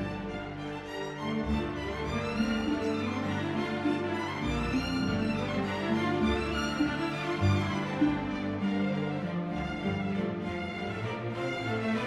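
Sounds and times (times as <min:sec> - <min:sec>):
violin melody: 0:00.0 - 0:12.0.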